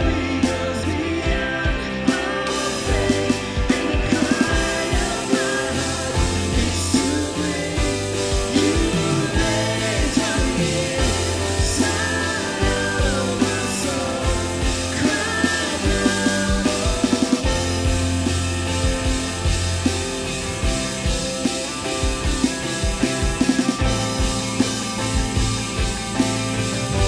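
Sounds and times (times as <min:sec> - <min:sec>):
bass guitar: 0:00.0 - 0:27.0
drum kit steady beat: 0:00.0 - 0:27.0
electric guitar: 0:00.0 - 0:27.0
keyboards: 0:00.0 - 0:27.0.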